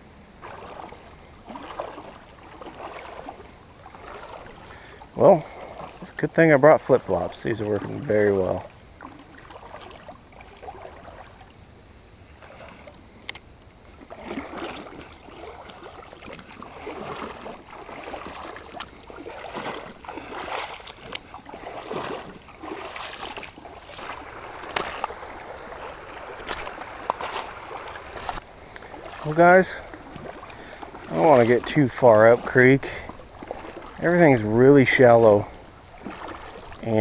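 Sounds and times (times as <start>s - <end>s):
creek flowing: 0.0s - 37.0s
footsteps splashing in water: 0.0s - 37.0s.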